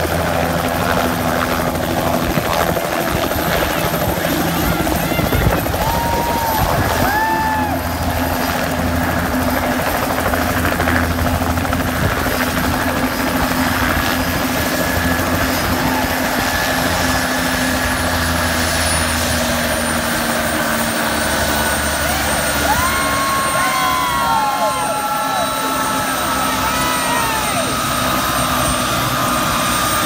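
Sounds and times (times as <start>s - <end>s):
helicopter rotor beat: 0.0s - 30.0s.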